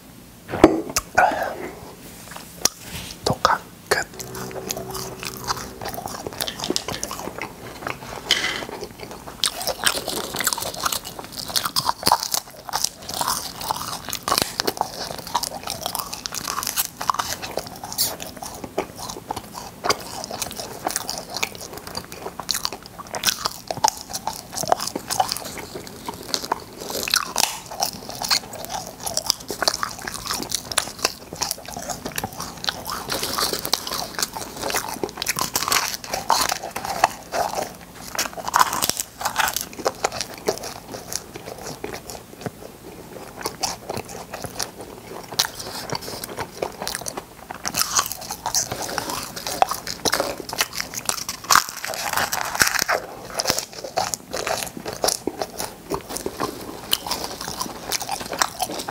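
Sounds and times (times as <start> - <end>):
crunching and chewing: 2.2 - 58.9
popping candy crackling: 3.9 - 58.9.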